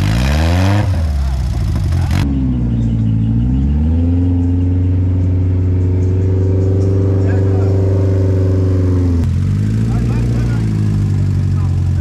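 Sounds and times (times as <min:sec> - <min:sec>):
dune buggy engine revving: 0:00.0 - 0:12.0
second buggy engine running: 0:00.0 - 0:12.0.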